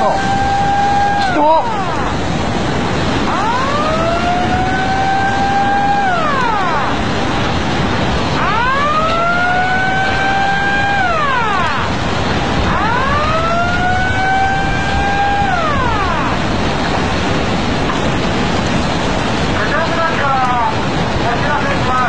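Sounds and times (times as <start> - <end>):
warning siren wailing: 0.0 - 18.9
rushing floodwater: 0.0 - 22.0.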